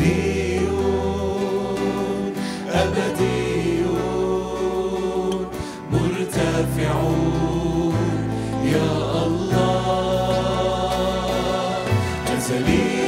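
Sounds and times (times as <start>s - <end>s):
group singing a hymn: 0.0s - 13.0s.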